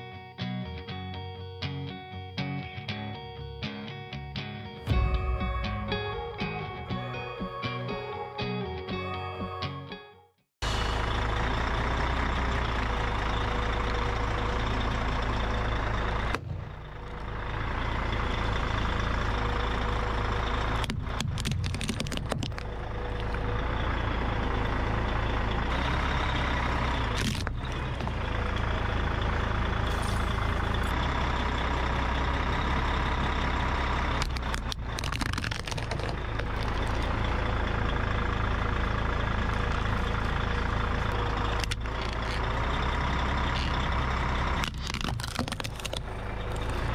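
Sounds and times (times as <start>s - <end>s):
truck engine running: 4.7s - 8.6s, 10.6s - 46.9s.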